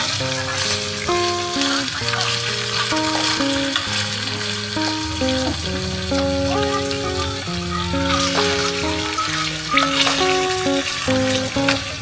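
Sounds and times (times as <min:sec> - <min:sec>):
food sizzling in a frying pan: 0:00.0 - 0:12.0
simple background music melody: 0:00.0 - 0:12.0.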